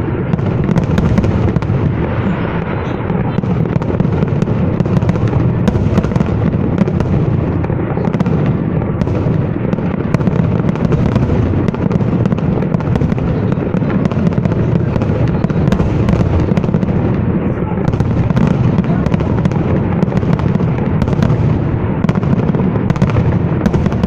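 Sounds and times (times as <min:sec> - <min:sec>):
fireworks booming: 0:00.0 - 0:24.0
fireworks crackling and popping: 0:00.0 - 0:24.0.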